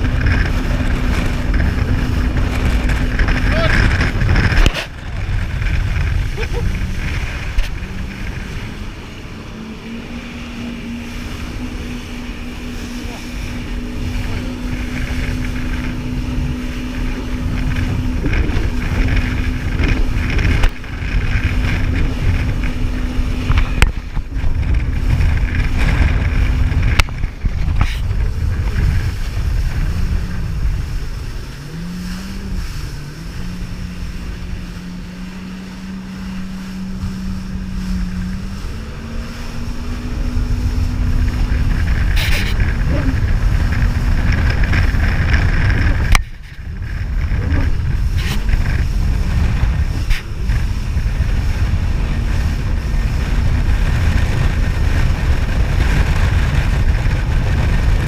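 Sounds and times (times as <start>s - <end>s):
jet ski engine running: 0.0s - 58.0s
rushing water: 0.0s - 58.0s
wind noise: 0.0s - 58.0s.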